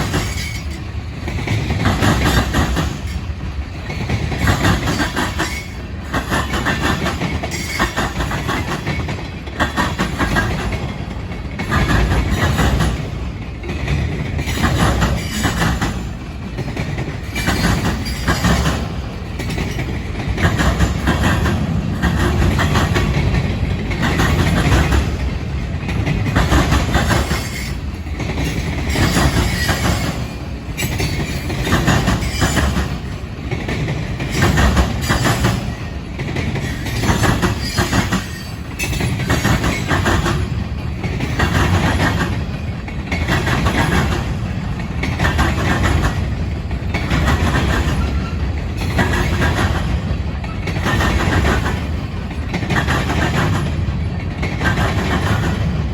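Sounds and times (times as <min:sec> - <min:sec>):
freight train wheels clattering: 0:00.0 - 0:55.9.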